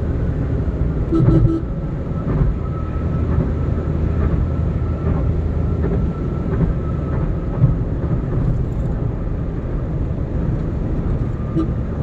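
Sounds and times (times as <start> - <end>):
car tyres and engine rumbling: 0.0 - 12.0.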